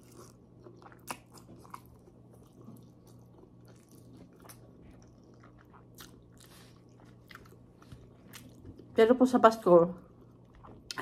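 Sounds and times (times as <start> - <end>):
person chewing: 0.0 - 8.9, 10.1 - 11.0.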